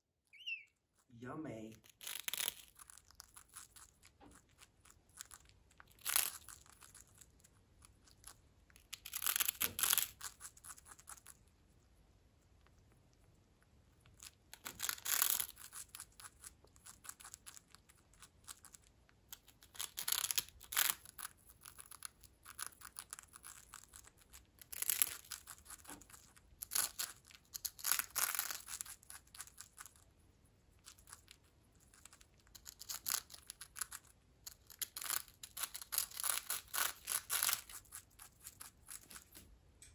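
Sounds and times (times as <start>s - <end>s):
parrot crunching cracker: 1.8s - 39.5s.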